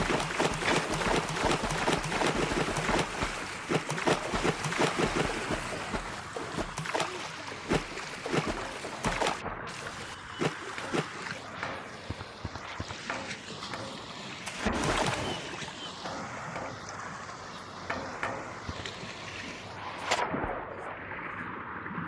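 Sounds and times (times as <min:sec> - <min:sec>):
steady watery rush: 0:00.0 - 0:22.0
water splashing and sloshing: 0:00.0 - 0:22.0.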